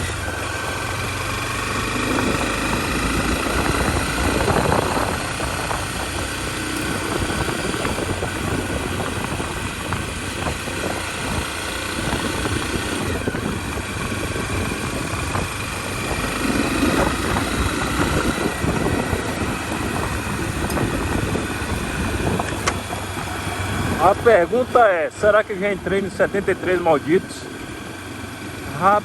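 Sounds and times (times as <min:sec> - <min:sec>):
heavy wind rush: 0:00.0 - 0:29.0
motorcycle engine hum: 0:00.0 - 0:29.0.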